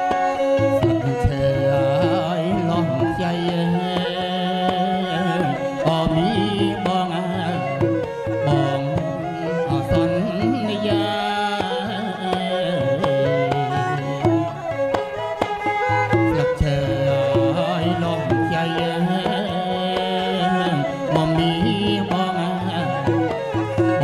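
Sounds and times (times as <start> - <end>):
asian instrumental music: 0.0 - 24.0.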